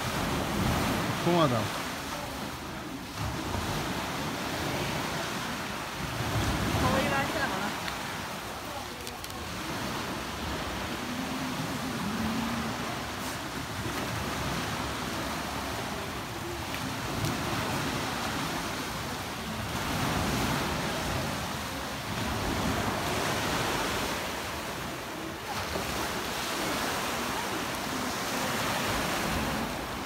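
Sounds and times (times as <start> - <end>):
small waves washing on beach: 0.0 - 30.0.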